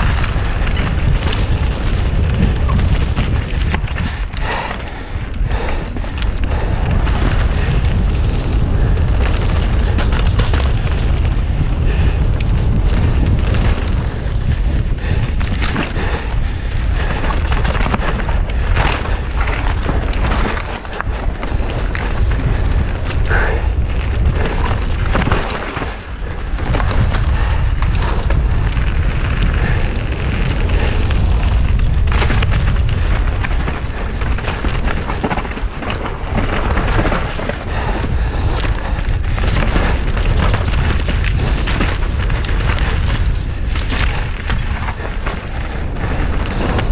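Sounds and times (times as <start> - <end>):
bike knocking and rattling: 0.0 - 46.9
wind rushing over microphone: 0.0 - 46.9.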